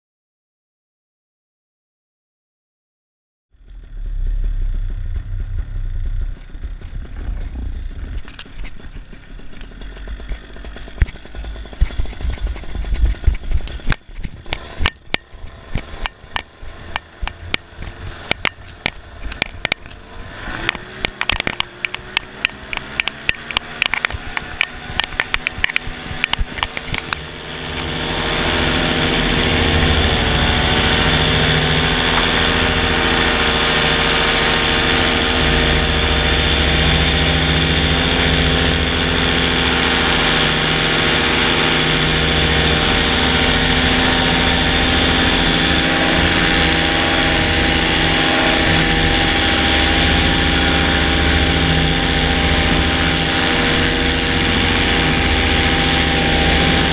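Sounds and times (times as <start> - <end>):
low wind buffets: 3.6 - 56.9
two-stroke engine revving: 3.6 - 56.9.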